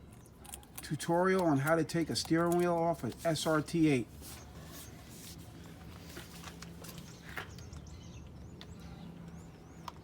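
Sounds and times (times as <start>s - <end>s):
birds chirping and warbling: 0.0s - 10.0s.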